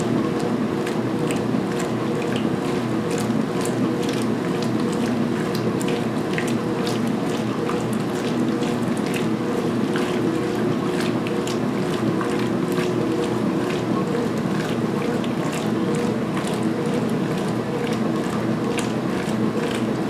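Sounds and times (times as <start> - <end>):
washing machine motor hum: 0.0 - 20.0
water sloshing and splashing: 0.0 - 20.0.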